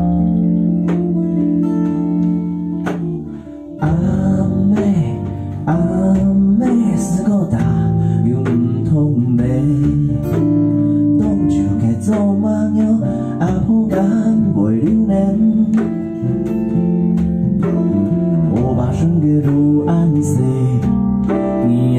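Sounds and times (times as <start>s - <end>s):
electric bass: 0.0s - 21.9s
electric guitar: 0.0s - 21.9s
strummed acoustic guitar: 0.0s - 21.9s
man singing: 3.7s - 21.9s.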